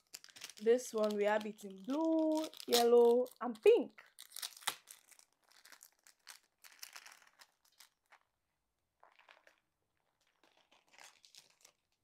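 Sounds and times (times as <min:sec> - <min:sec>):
plastic packaging crinkling: 0:00.0 - 0:08.3, 0:09.0 - 0:12.0.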